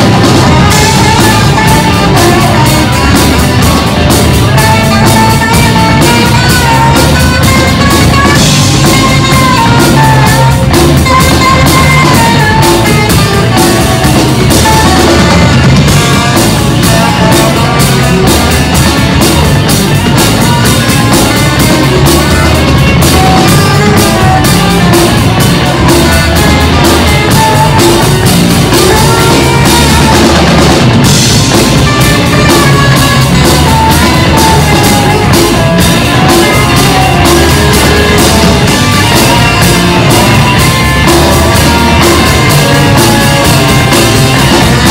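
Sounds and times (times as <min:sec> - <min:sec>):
drum kit: 0:00.0 - 0:44.9
electric guitars: 0:00.0 - 0:44.9
saxophone: 0:00.0 - 0:44.9.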